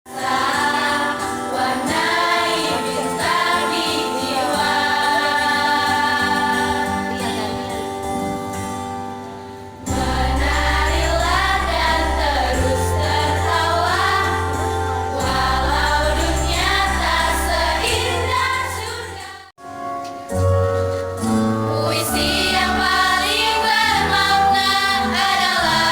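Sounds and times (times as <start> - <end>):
choir singing with instruments: 0.1 - 8.3, 9.8 - 19.5, 21.2 - 25.9.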